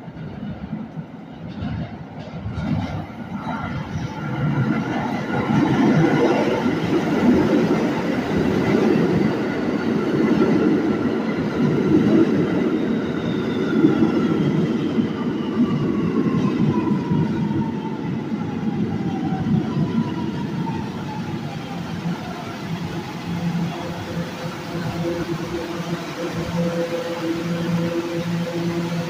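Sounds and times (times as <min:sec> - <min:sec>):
subway wheels rumbling on rails: 0:00.0 - 0:29.0.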